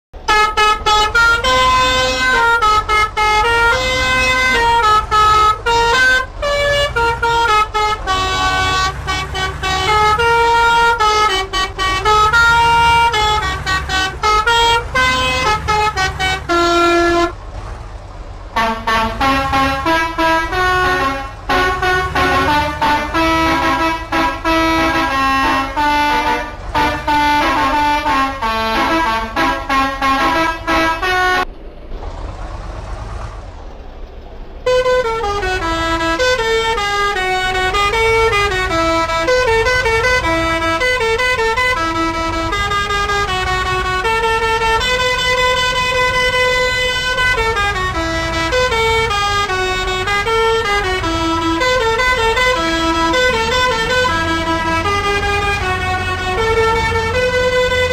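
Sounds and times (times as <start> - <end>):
road noise: 0.1 - 57.9
bus musical horn tunes: 0.2 - 17.4, 18.5 - 31.6, 34.6 - 57.9
low engine rumble: 0.2 - 57.9.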